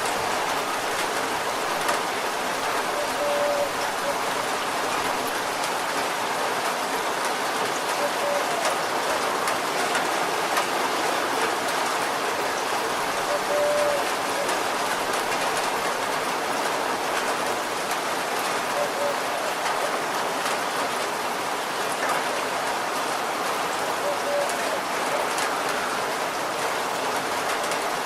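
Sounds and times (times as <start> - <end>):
raindrops ticking: 0.0 - 22.8
rain on a car roof: 0.0 - 28.0.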